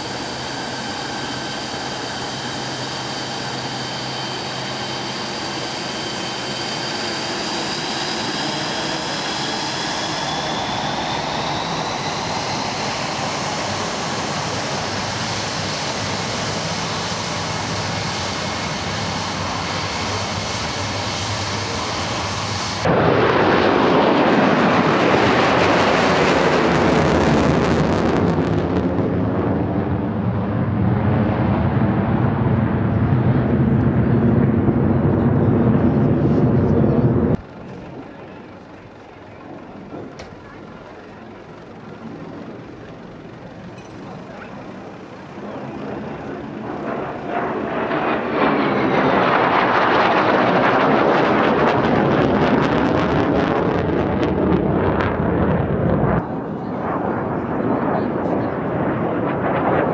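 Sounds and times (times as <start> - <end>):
jet afterburner roar: 0.0 - 59.9
jet engine whine: 0.0 - 59.9.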